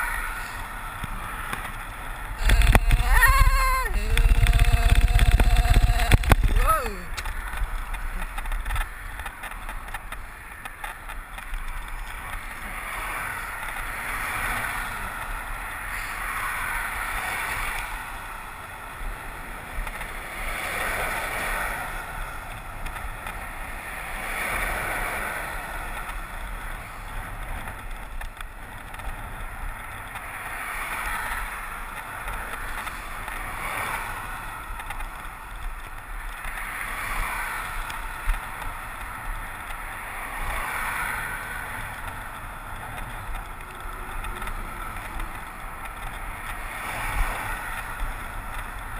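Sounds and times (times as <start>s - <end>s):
passing traffic whoosh: 0.0s - 48.9s
wind and road noise: 0.0s - 48.9s.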